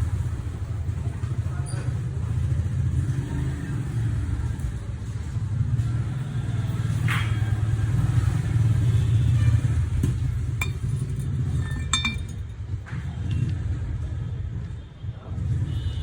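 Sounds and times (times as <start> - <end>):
engine rumble with flutter: 0.0 - 16.0.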